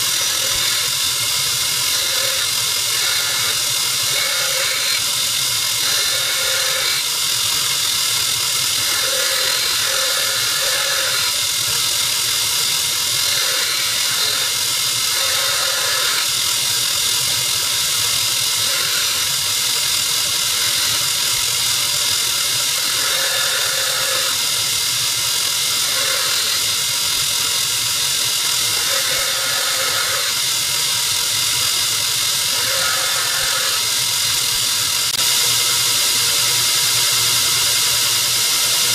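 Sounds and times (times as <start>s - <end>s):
belt grinder grinding steel: 0.0s - 38.9s.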